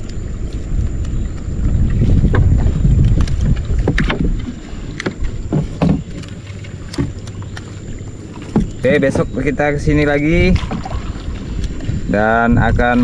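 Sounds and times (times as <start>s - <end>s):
paddle knocking and splashing: 0.0s - 13.0s
wind on microphone: 0.0s - 13.0s.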